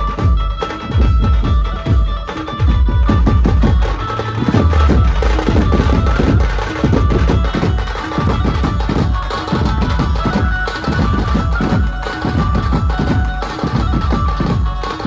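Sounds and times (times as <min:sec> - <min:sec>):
fast dense drumming: 0:00.0 - 0:15.0
held melody line: 0:00.0 - 0:15.0.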